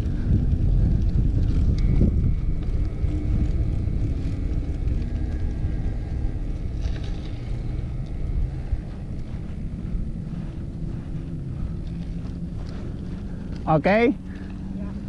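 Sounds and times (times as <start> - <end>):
bike tyres rolling on gravel: 0.0 - 15.0
wind noise on microphone: 0.0 - 15.0.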